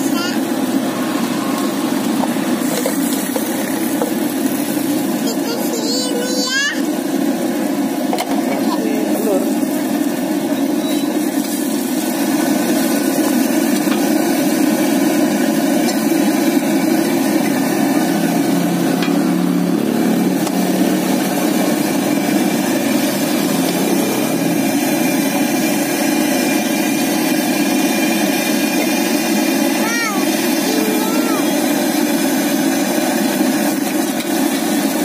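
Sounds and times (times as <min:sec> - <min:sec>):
food sizzling on griddle: 0:00.0 - 0:35.0.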